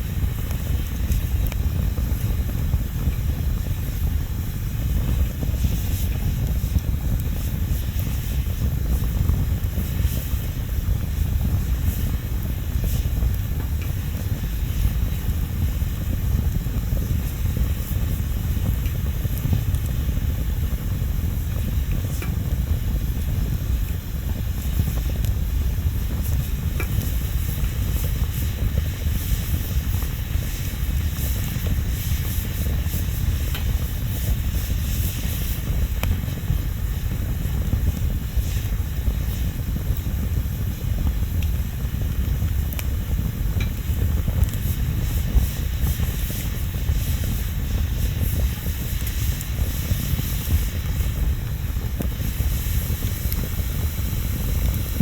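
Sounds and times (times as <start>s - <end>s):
bonfire low rumble: 0.0s - 55.0s
small crackles and pops: 0.0s - 55.0s.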